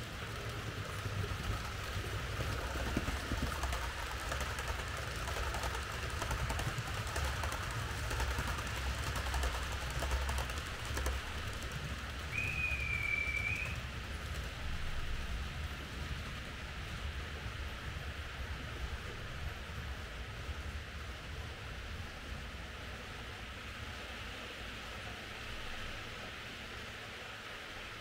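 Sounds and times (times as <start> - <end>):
model train rattling on track: 0.0 - 27.9.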